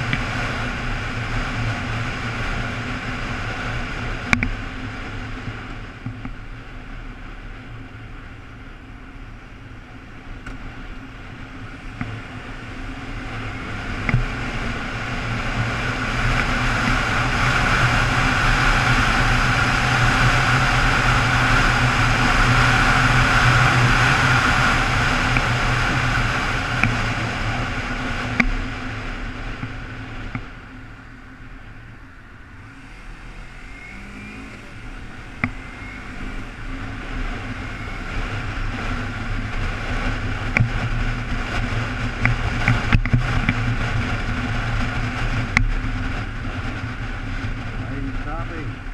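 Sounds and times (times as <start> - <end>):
motorcycle engine hum: 0.0 - 48.9
wind rush on microphone: 0.0 - 48.9.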